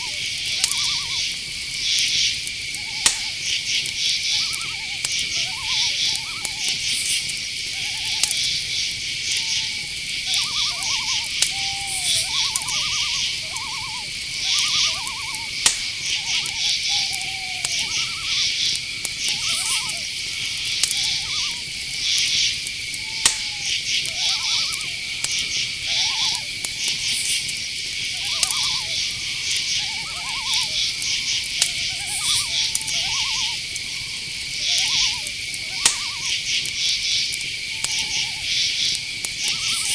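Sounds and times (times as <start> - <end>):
crickets trilling: 0.0 - 39.9
owls hooting: 0.0 - 39.9
sharp clicks: 2.0 - 9.6, 10.3 - 39.9.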